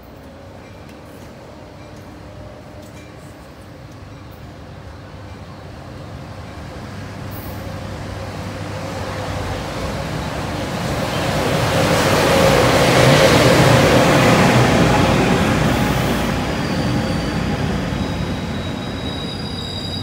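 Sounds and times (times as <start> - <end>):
steady train whine: 0.0 - 20.0
train rumbling: 0.0 - 20.0.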